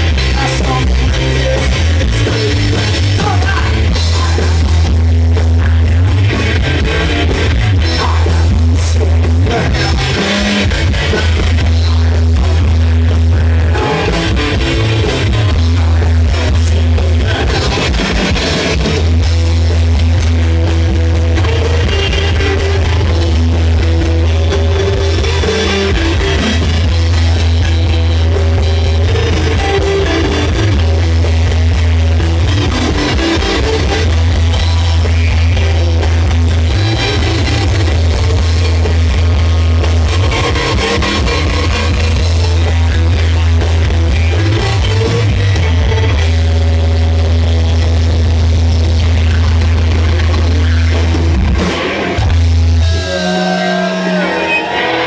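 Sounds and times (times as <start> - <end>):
bass guitar: 0.0 - 55.0
drums: 0.0 - 55.0
electric guitars: 0.0 - 55.0.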